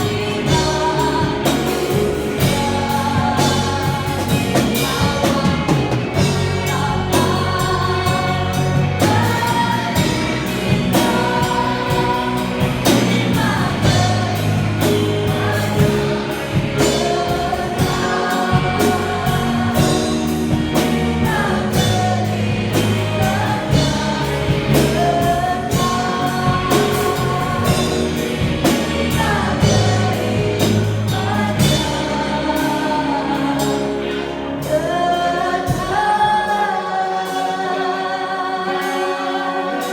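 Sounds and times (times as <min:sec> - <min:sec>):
steady drum beat: 0:00.0 - 0:32.9
band accompaniment: 0:00.0 - 0:39.9
choir singing: 0:00.0 - 0:39.9.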